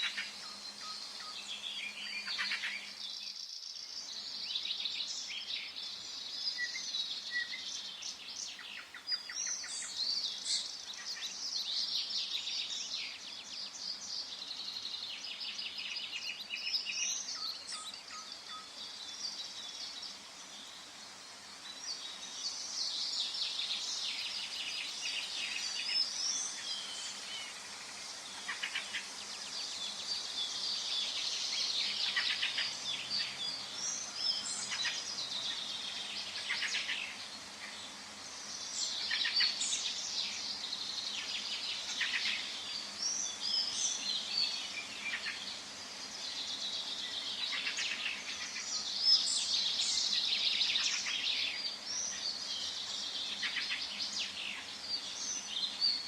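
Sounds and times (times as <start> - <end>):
birds singing in chorus: 0.0 - 56.0.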